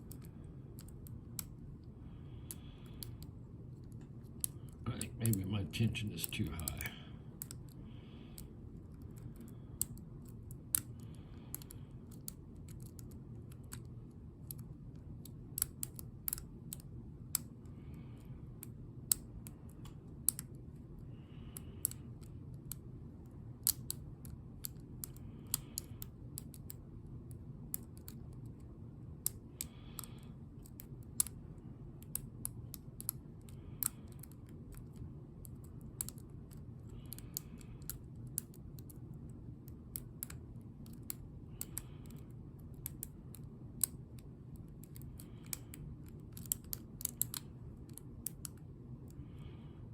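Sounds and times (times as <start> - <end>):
low steady hum: 0.0 - 49.9
lock pick clicking pins: 2.4 - 7.8, 8.4 - 17.6, 21.5 - 26.8, 27.6 - 31.4, 32.0 - 48.6.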